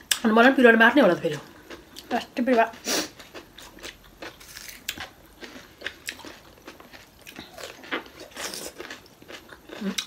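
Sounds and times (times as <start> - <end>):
cucumber crunching and chewing: 1.3 - 10.0.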